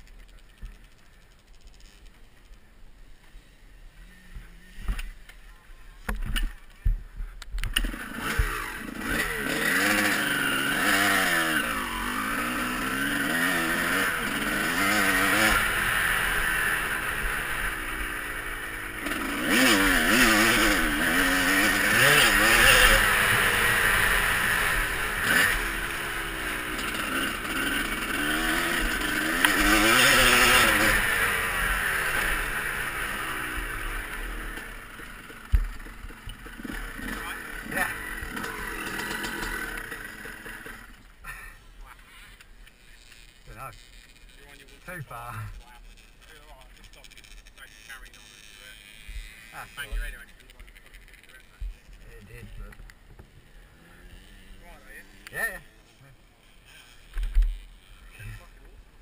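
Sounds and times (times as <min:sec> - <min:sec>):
motocross engines revving: 0:07.6 - 0:59.0.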